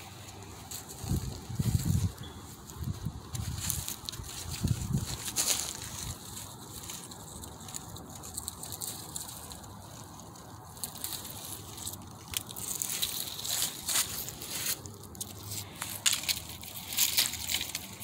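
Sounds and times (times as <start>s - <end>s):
dry leaves crunching underfoot: 0.0s - 18.0s.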